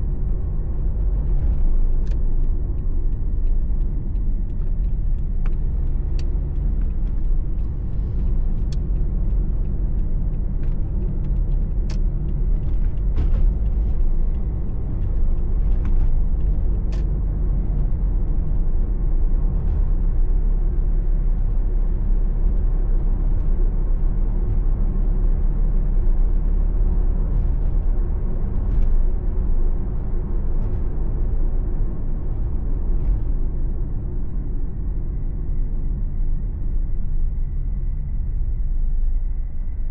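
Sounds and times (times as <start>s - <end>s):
car engine rumble: 0.0s - 39.9s
tyres on the road: 0.0s - 39.9s.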